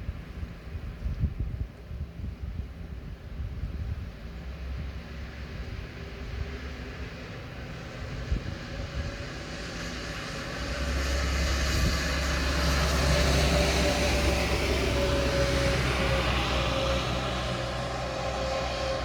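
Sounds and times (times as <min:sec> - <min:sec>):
traffic rumble on wet road: 0:01.8 - 0:19.0.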